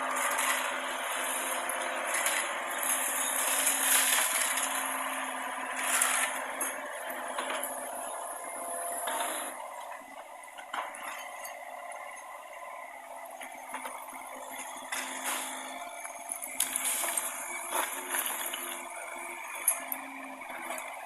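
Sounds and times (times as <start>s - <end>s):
mini excavator running: 0.0s - 21.0s.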